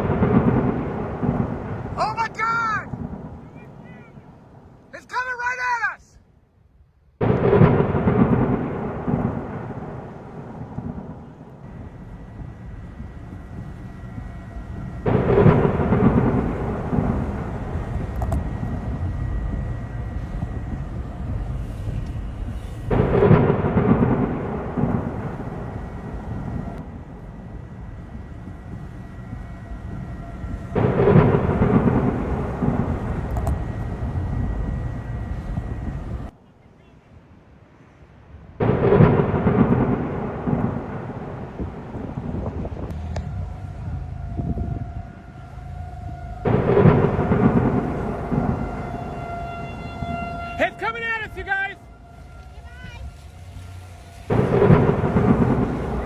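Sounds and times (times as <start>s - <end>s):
thunder rumbling: 0.0s - 5.0s, 5.6s - 36.4s, 37.2s - 56.0s
steady storm noise: 0.0s - 56.0s.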